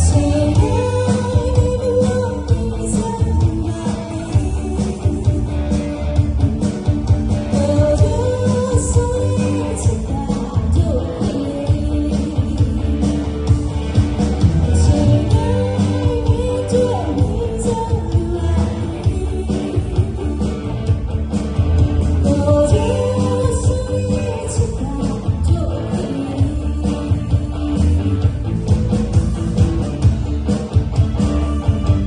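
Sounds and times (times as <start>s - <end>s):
rock band with singer: 0.0s - 32.0s.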